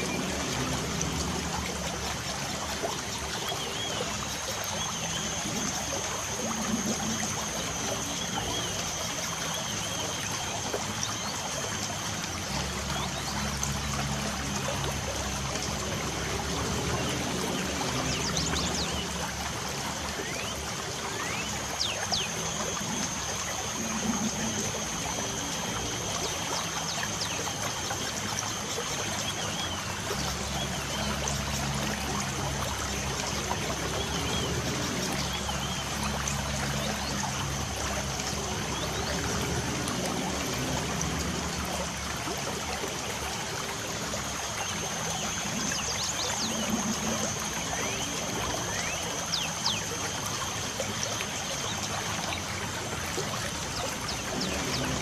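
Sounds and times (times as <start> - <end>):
light rain trickling: 0.0 - 55.0.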